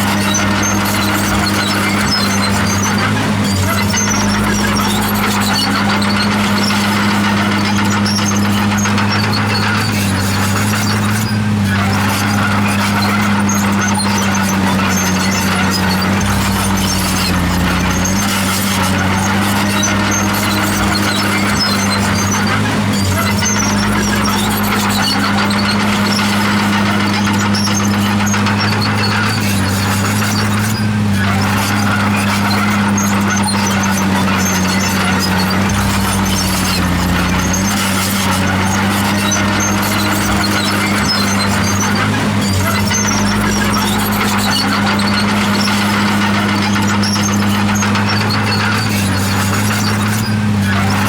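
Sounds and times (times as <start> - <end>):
bulldozer diesel engine running: 0.0 - 51.0
steel tracks squeaking: 0.0 - 51.0.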